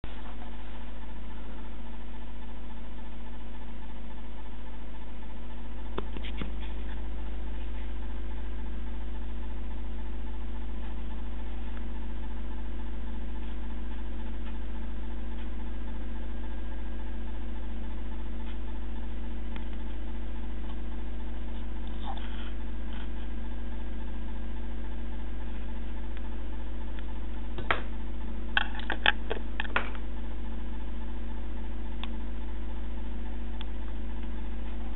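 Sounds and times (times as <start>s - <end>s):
low electrical hum: 0.0s - 34.9s.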